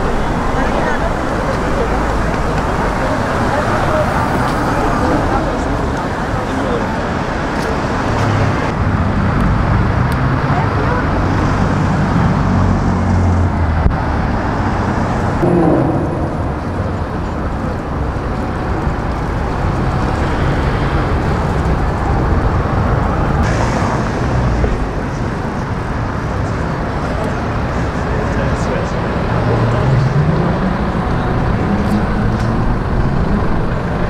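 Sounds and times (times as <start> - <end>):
cars driving past: 0.0 - 34.0.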